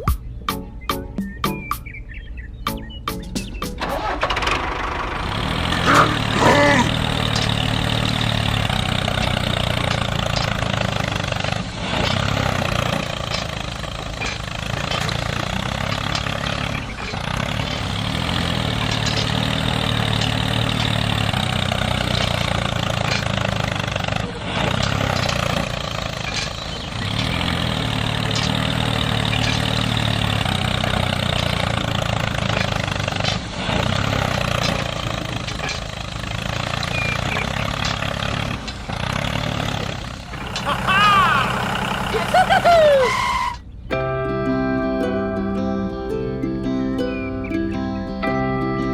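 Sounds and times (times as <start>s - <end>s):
tractor engine running: 1.2s - 43.9s.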